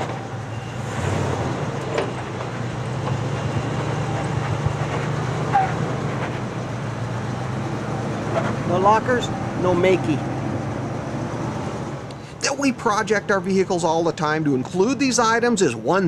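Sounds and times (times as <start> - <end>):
truck engine running: 0.0 - 15.8.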